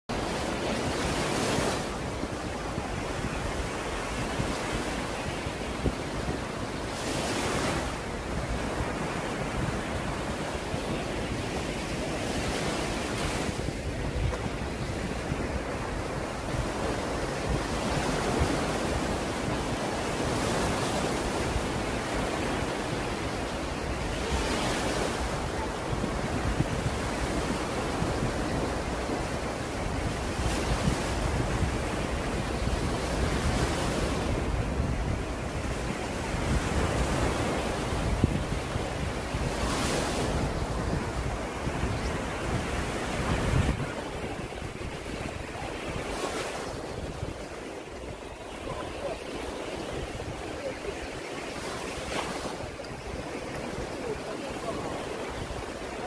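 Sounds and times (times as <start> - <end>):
waves breaking on sand: 0.1 - 56.0.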